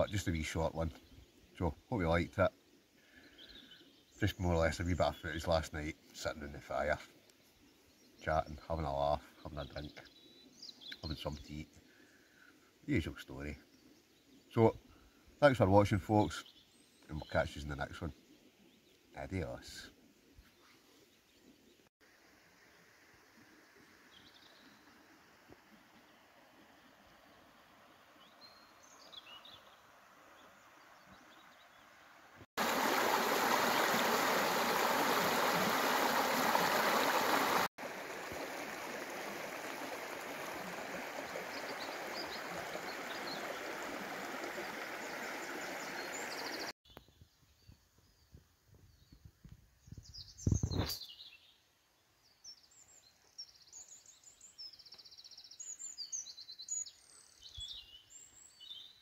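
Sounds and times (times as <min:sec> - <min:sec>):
small birds chirping: 0:00.0 - 0:21.9, 0:24.0 - 0:25.1, 0:27.3 - 0:59.0.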